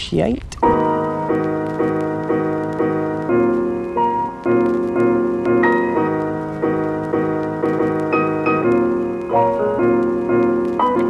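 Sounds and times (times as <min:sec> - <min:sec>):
piano chords: 0:00.6 - 0:11.0.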